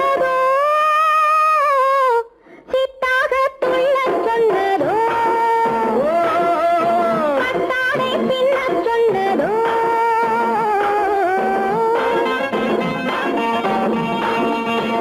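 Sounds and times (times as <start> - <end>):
woman singing: 0.0 - 12.5.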